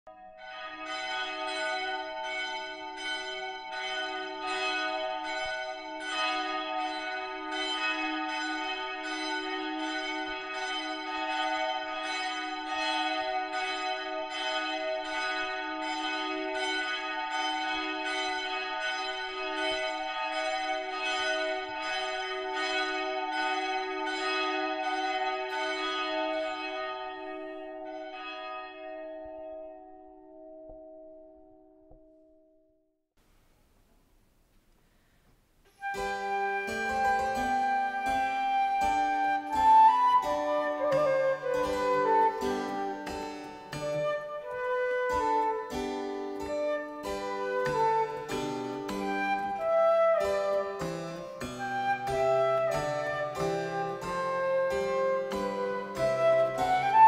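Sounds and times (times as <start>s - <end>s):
church bells ringing a peal: 0.1s - 30.5s, 35.8s - 57.0s.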